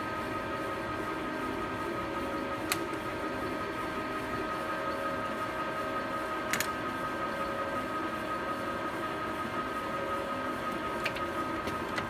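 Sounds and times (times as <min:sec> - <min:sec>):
lathe running with whine: 0:00.0 - 0:12.0.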